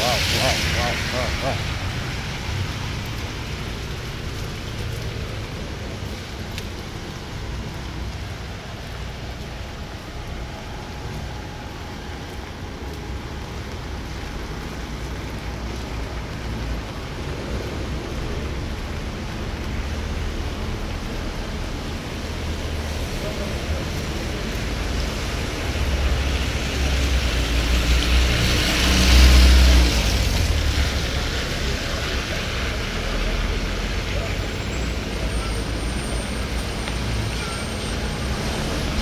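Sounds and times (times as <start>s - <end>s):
distant traffic rumble: 0.0s - 39.0s
hiss of wet road: 0.0s - 39.0s.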